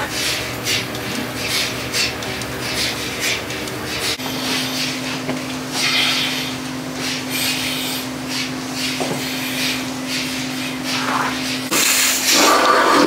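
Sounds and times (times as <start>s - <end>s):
vacuum pump hum: 0.0s - 13.0s.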